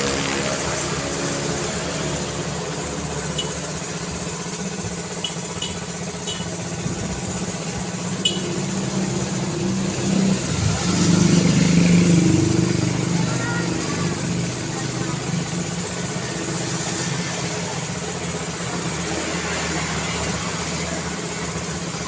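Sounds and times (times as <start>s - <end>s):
street traffic: 0.0s - 22.0s
vehicle engine approaching: 0.0s - 22.0s.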